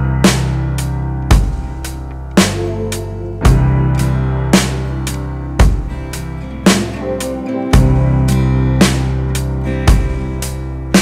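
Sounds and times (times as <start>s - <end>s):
electronic music with heavy bass drum: 0.0s - 11.0s.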